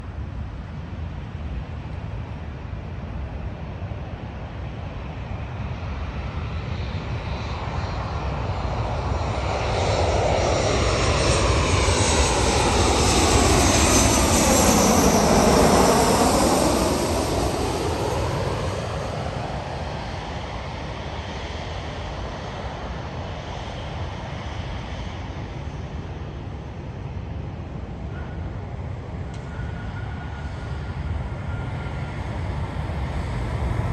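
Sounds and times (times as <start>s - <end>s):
jet plane passing overhead: 0.0s - 33.9s.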